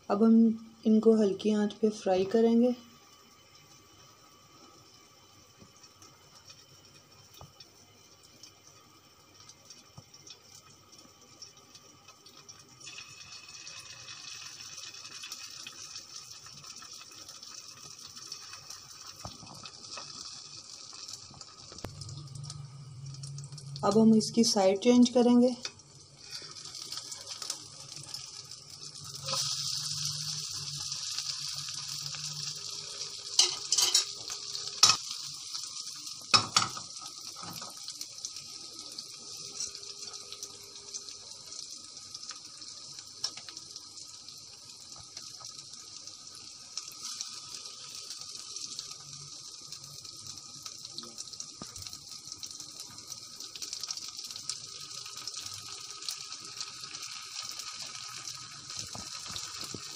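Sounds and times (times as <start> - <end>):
ghee sizzling in a pan: 0.0 - 59.9.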